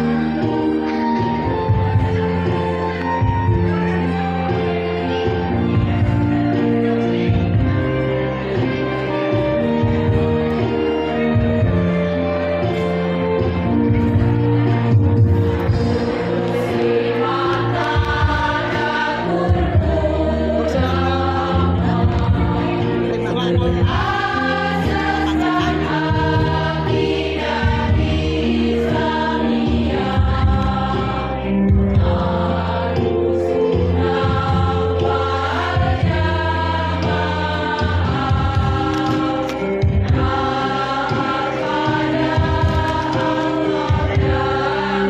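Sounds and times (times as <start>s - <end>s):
women's choir singing a hymn: 0.0s - 45.0s.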